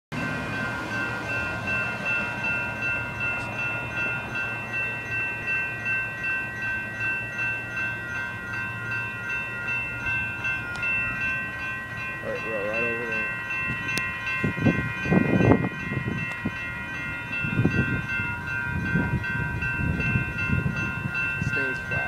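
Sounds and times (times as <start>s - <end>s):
railroad crossing bells ringing: 0.1s - 22.0s.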